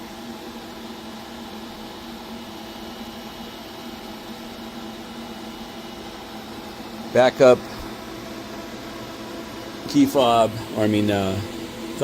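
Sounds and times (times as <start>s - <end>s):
machine hum and fan noise: 0.0s - 12.0s.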